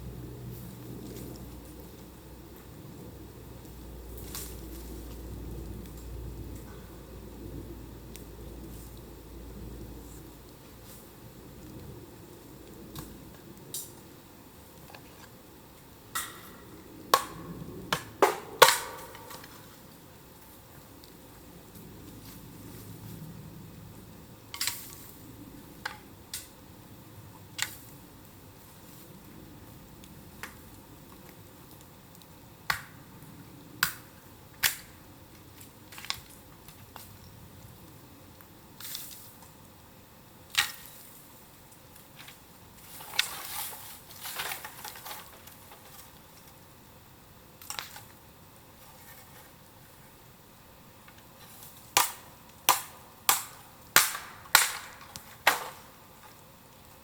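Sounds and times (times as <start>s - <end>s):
bamboo popping in a bonfire: 0.0s - 57.0s.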